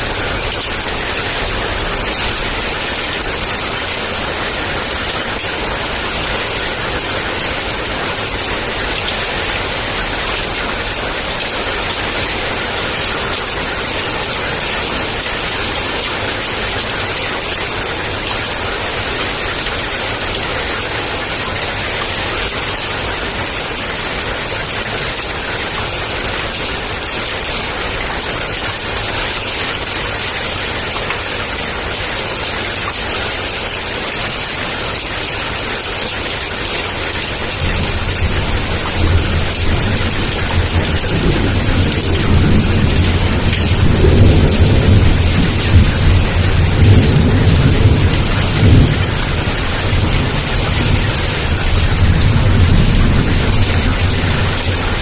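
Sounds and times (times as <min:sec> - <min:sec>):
heavy rain downpour: 0:00.0 - 0:55.0.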